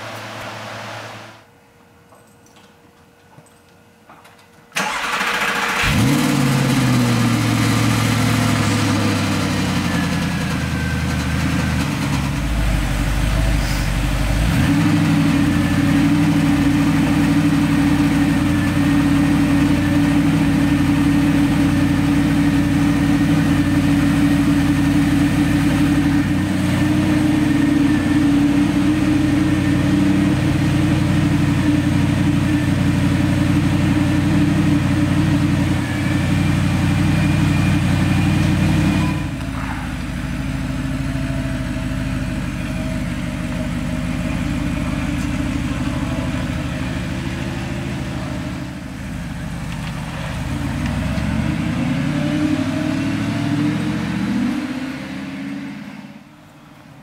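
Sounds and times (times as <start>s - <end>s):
car engine idling fast: 4.8s - 51.7s.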